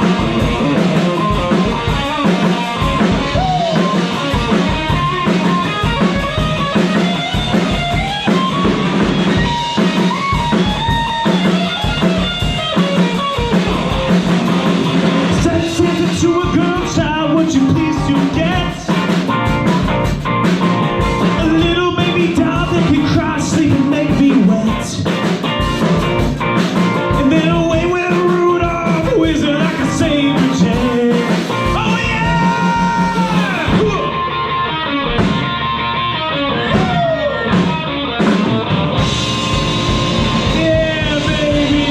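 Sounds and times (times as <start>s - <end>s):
drum kit: 0.0s - 34.3s, 35.0s - 41.9s
electric guitar: 0.0s - 41.9s
live rock band playing: 0.0s - 41.9s.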